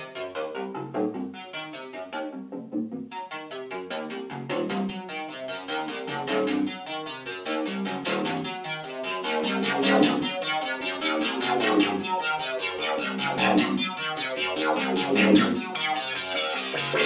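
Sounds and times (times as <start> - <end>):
synthesizer playing fast repeating notes: 0.0 - 17.0.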